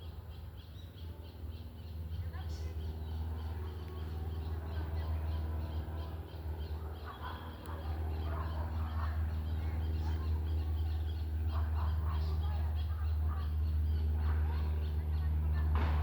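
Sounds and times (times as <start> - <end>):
propeller plane engine running: 0.0 - 16.0.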